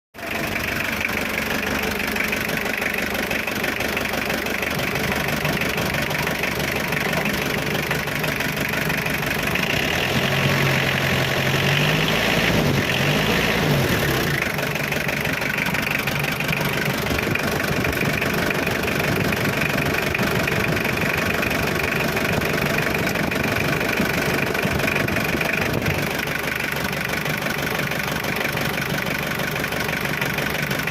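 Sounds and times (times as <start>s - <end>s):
diesel engine idling and revving: 0.2s - 30.9s.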